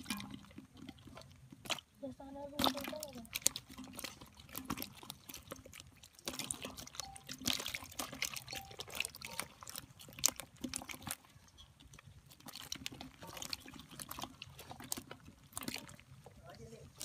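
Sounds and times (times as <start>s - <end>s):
fish flapping in shallow water: 0.0s - 17.0s.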